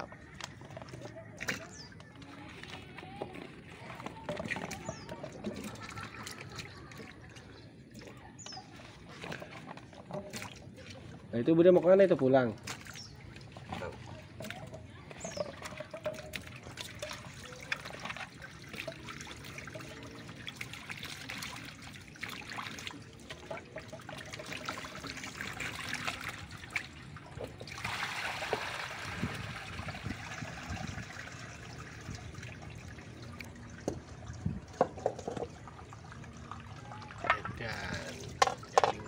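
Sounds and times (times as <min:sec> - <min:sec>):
water trickling and splashing: 0:00.0 - 0:39.0.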